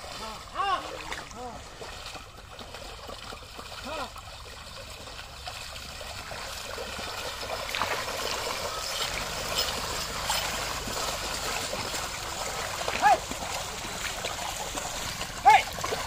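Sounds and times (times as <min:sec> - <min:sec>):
muddy water sloshing and splashing: 0:00.0 - 0:16.0.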